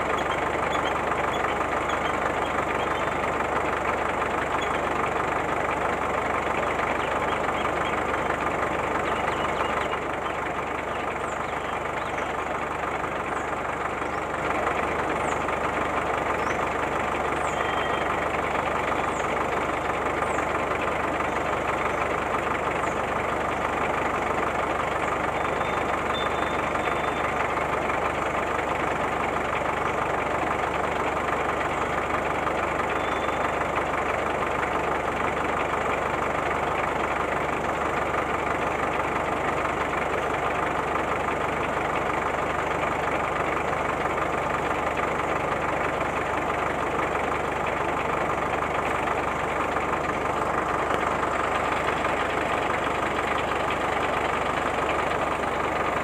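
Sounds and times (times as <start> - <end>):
toy road roller engine noise: 0.0 - 56.0.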